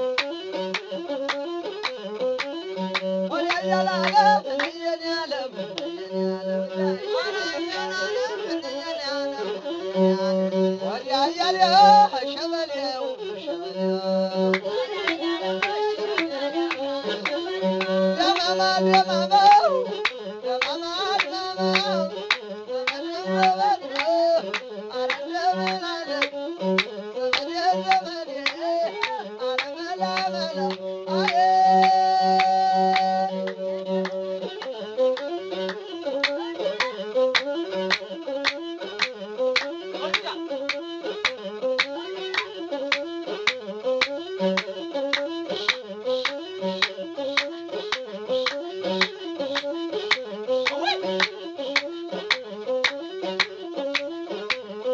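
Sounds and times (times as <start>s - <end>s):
bowed fiddle melody: 0.0s - 54.9s.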